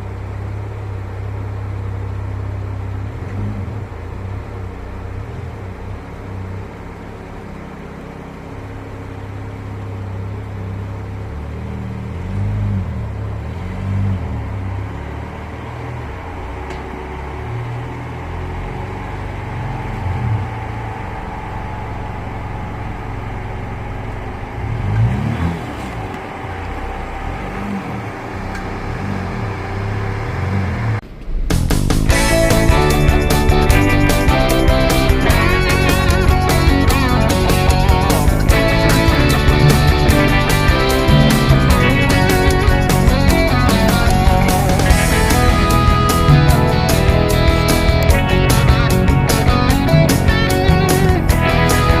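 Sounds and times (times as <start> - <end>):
vehicle engine revving: 0.0 - 52.0.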